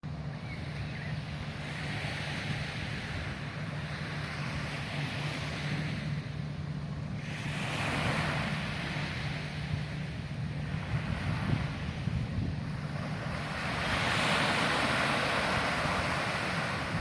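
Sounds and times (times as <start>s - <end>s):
sea waves washing in: 0.0s - 17.0s
wind rumble on microphone: 0.0s - 17.0s.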